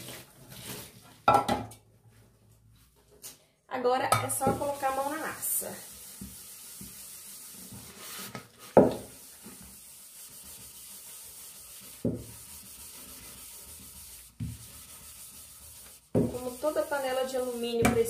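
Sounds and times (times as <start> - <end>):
pot being scoured: 0.0 - 1.1, 4.4 - 18.0.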